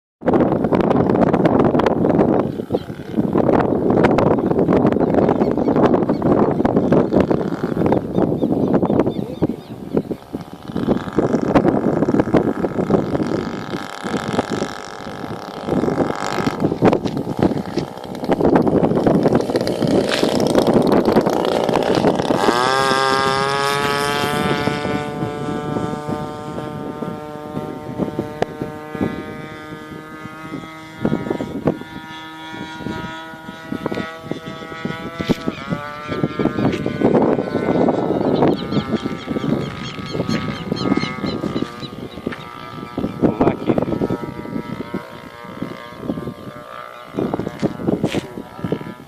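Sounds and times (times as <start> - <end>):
gusty rumbling noise: 0.2 - 49.0
model airplane engine buzzing: 0.2 - 49.0.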